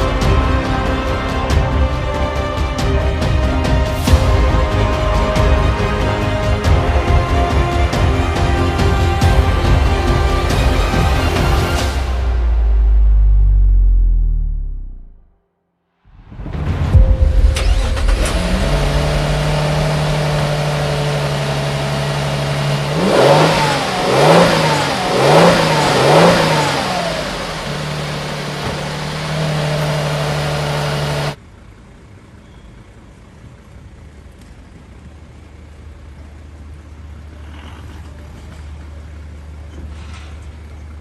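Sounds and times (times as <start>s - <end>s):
car engine idling and revving: 0.0s - 15.3s, 16.9s - 41.0s.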